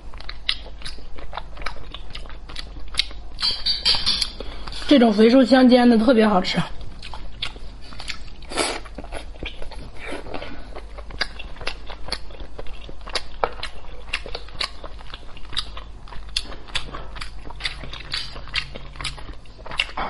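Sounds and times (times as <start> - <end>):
person chewing: 0.0 - 4.9, 6.7 - 20.0.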